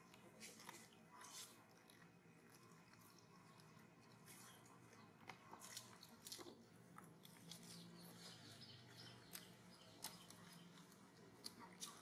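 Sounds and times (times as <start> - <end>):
monkey chewing food: 0.0 - 12.0.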